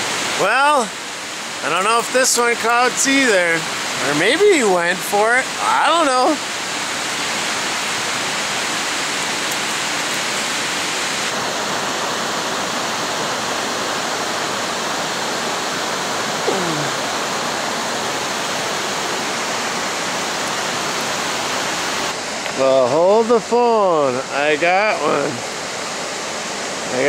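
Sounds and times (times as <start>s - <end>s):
water rushing over a spillway: 0.0s - 27.0s.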